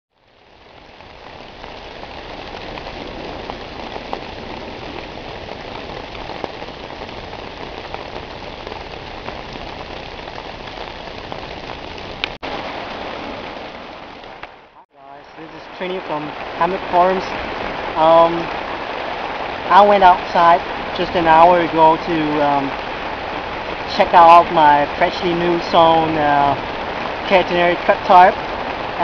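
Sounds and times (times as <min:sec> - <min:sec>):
rain falling on a tarp: 0:00.1 - 0:29.0
single raindrops: 0:00.2 - 0:26.0.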